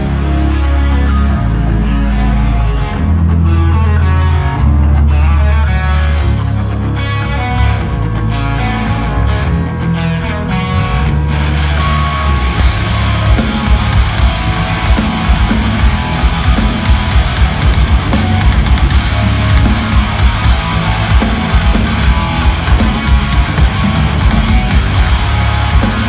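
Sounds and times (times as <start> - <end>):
distorted electric guitars: 0.0 - 26.0
drum kit driving beat: 0.0 - 26.0.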